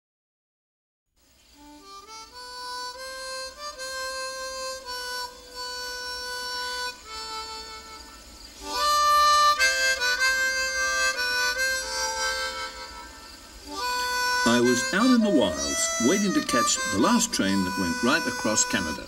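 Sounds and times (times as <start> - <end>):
slow title music melody: 1.6 - 19.0.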